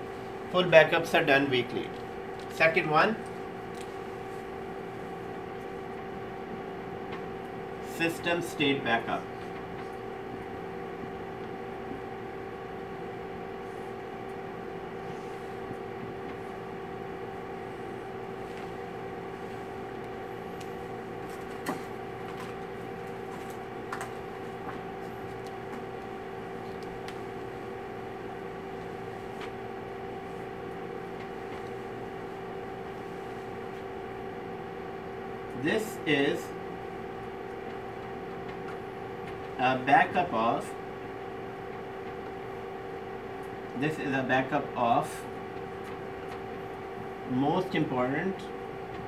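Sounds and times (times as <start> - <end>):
room hum with pitched tones: 0.0 - 49.0.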